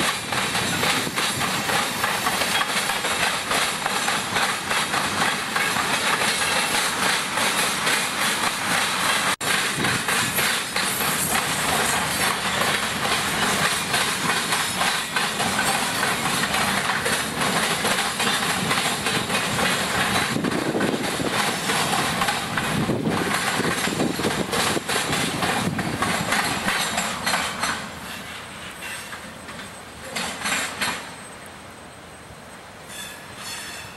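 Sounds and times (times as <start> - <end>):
wheels clicking over rail joints: 0.0 - 31.2
freight train rumbling past: 0.0 - 33.9.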